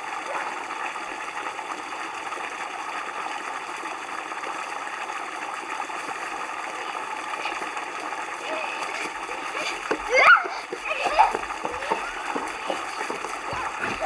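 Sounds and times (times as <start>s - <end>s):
stream running: 0.0s - 14.0s.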